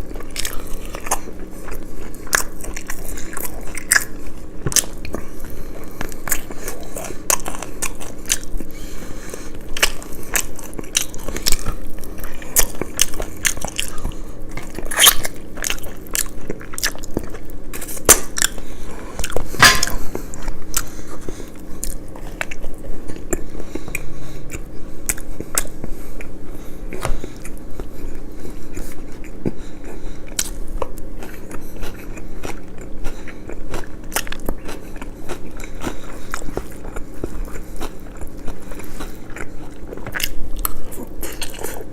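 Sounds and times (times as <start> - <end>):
crunchy food chewing: 0.0 - 41.9.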